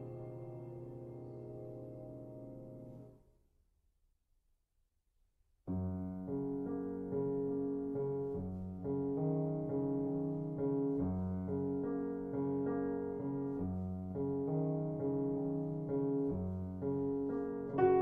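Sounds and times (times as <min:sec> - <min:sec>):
piano music: 0:00.0 - 0:03.2, 0:05.7 - 0:18.0.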